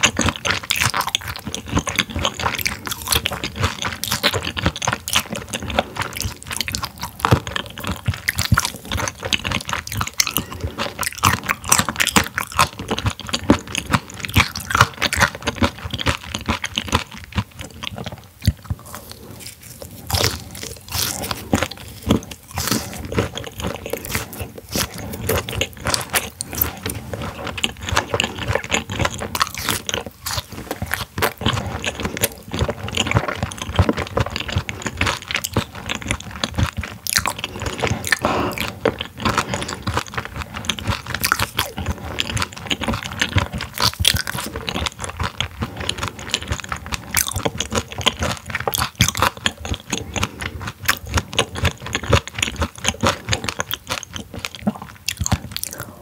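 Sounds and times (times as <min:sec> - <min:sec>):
wet crunchy chewing: 0:00.0 - 0:56.0.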